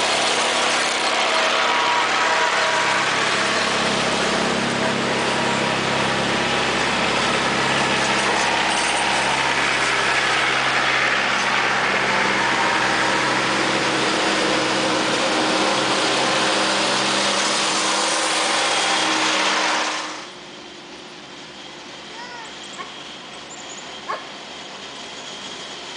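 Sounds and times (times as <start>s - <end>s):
tractor engines driving past: 0.0s - 25.9s.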